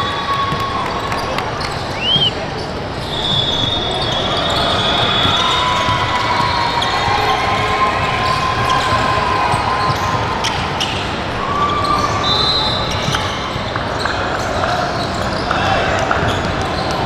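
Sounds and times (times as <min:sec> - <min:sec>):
voices: 0:00.0 - 0:17.0.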